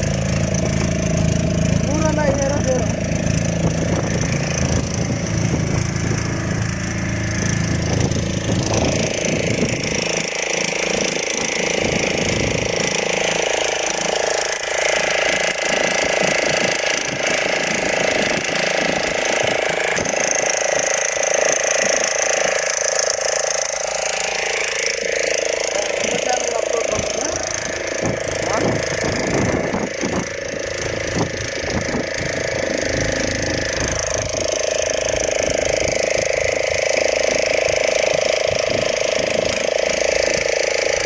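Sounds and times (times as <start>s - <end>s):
boat motor running: 0.0s - 41.0s.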